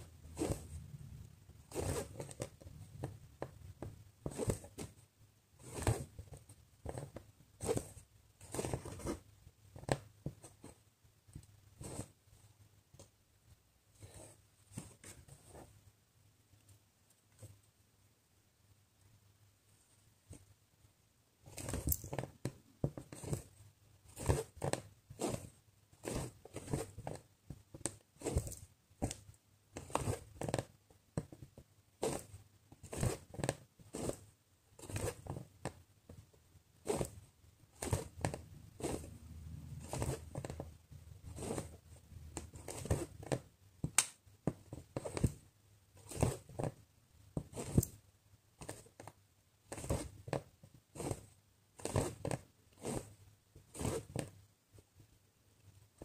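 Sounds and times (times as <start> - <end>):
thread rasping through canvas: 0.0 - 13.1, 13.9 - 15.8, 21.4 - 54.8.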